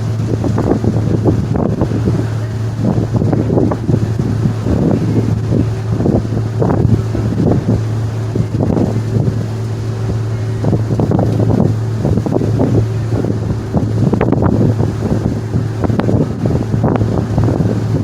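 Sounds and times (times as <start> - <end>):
ferry engines droning: 0.0 - 18.0
wind buffeting microphone: 0.0 - 18.0.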